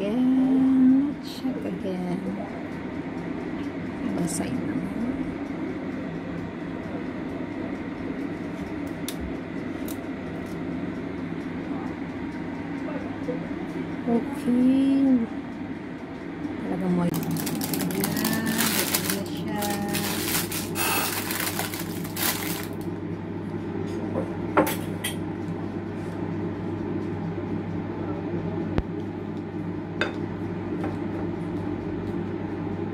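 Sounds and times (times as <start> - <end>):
low mechanical hum and rumble: 0.0 - 32.9.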